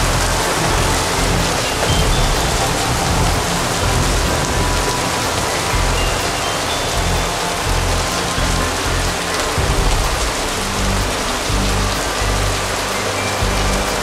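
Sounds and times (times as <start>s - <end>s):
background music with bass: 0.0s - 14.0s
heavy rain hissing: 0.0s - 14.0s.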